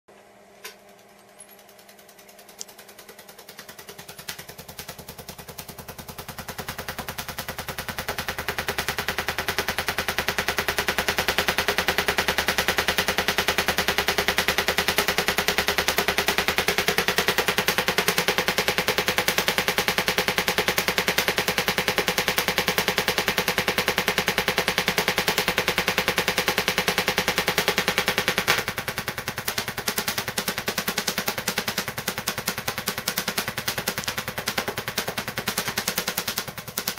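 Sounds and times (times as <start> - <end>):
tesla coil spark cracks: 2.4 - 36.9.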